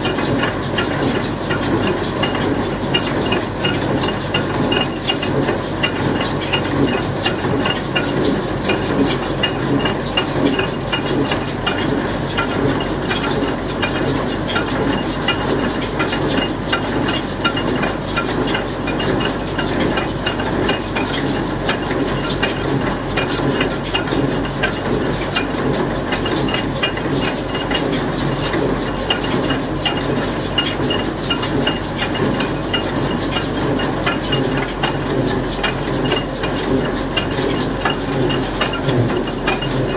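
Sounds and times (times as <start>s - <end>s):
baler mechanical clatter: 0.0s - 39.9s
tractor engine drone: 0.0s - 39.9s.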